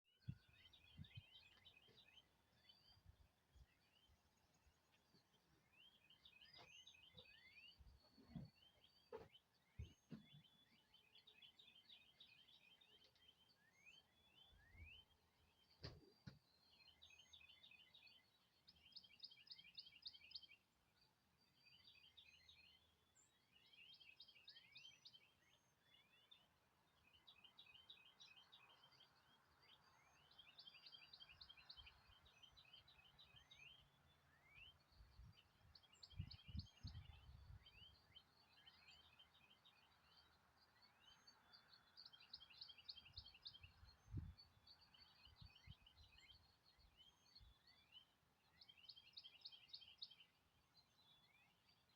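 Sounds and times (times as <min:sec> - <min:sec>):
faint songbird chirps: 0:00.1 - 0:51.9.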